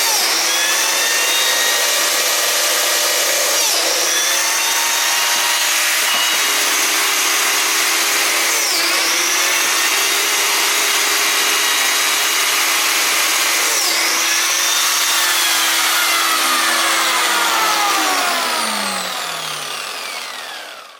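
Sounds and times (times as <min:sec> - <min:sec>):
biscuit jointer motor whine: 0:00.0 - 0:20.9.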